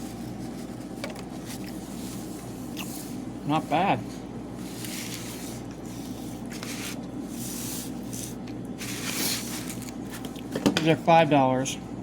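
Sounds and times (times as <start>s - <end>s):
rustling and handling noises: 0.0s - 11.0s
low background hum: 0.0s - 12.0s.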